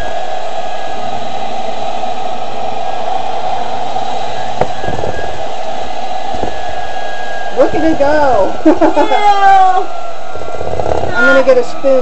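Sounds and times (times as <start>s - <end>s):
electric kitchen mixer running: 0.0s - 12.0s.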